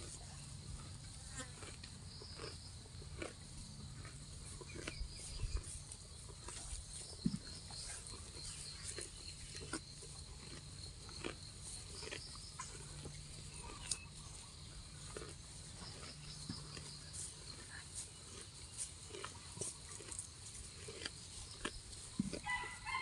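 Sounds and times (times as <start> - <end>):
cow tearing grass and chewing: 0.0 - 23.0.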